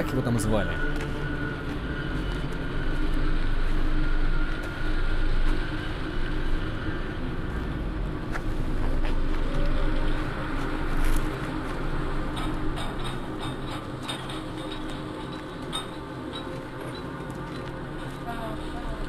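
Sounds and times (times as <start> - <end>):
low rumbling drone: 0.0 - 19.0.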